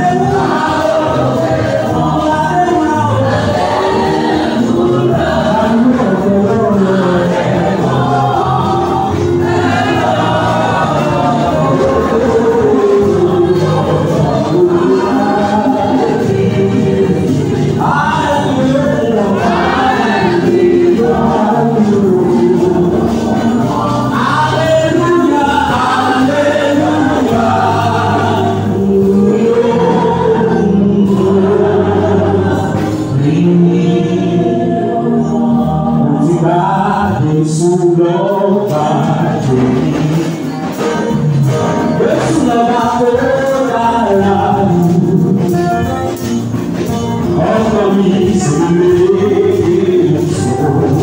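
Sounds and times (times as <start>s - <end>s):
congregation singing gospel song: 0.0s - 51.0s.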